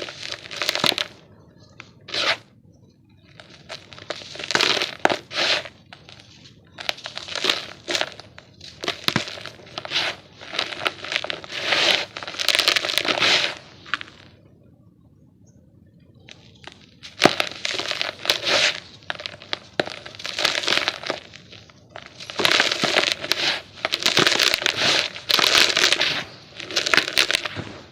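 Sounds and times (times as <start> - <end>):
dirt lumps crunching: 0.0 - 1.2, 3.3 - 14.3, 16.2 - 27.9.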